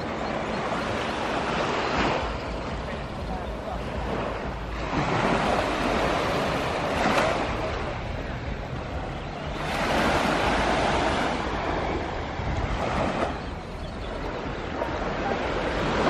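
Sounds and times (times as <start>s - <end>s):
waves washing onto beach: 0.0s - 16.0s
wind rumbling on microphone: 0.0s - 16.0s.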